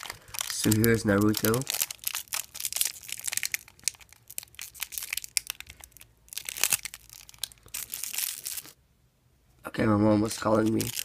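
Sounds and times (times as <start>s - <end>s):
packaging crinkling and tearing: 0.0s - 8.8s, 10.3s - 11.0s.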